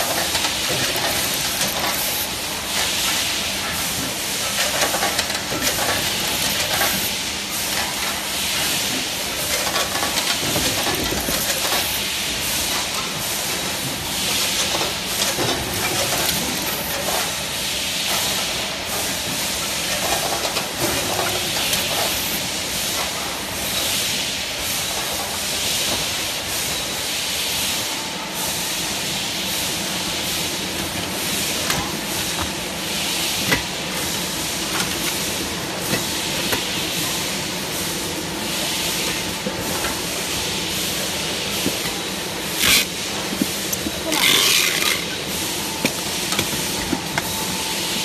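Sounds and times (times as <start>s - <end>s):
packaging machine hissing rush: 0.0s - 48.0s.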